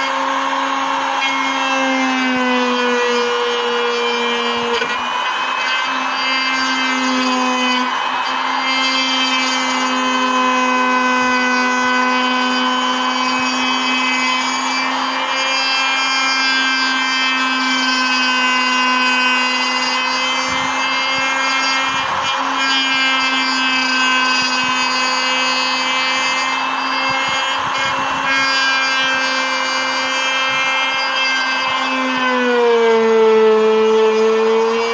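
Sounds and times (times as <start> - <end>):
electric router motor whine: 0.0 - 34.9
router bit rasping wood: 0.0 - 34.9.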